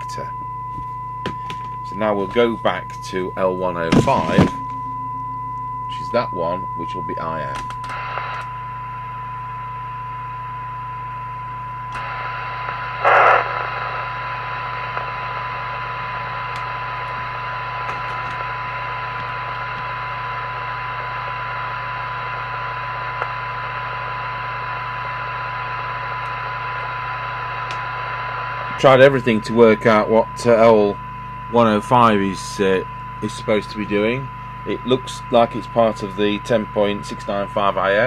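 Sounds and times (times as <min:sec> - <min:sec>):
low steady hum: 0:00.0 - 0:38.0
radio test tone: 0:00.0 - 0:38.0
receiver hiss: 0:00.0 - 0:38.0.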